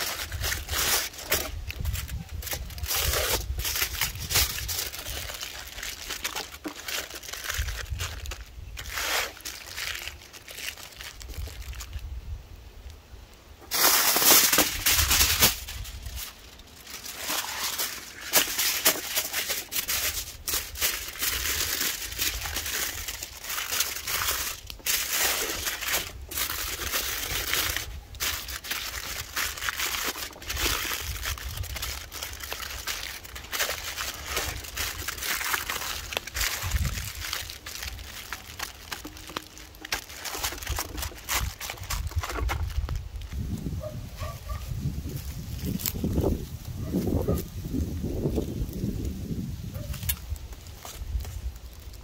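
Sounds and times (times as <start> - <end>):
aluminium foil crinkling: 0.0 - 13.0, 13.6 - 52.0.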